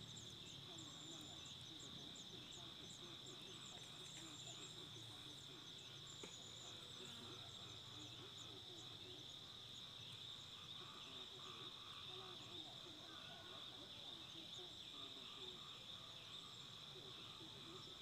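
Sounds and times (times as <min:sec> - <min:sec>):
insect drone: 0:00.0 - 0:18.0.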